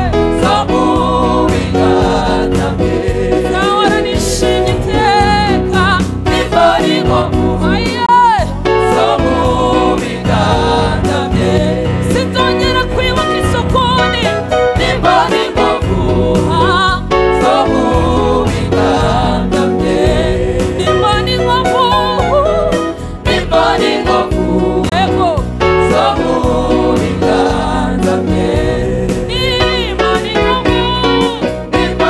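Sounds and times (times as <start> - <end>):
instrumental backing: 0.0 - 32.0
voices singing gospel song: 0.0 - 32.0.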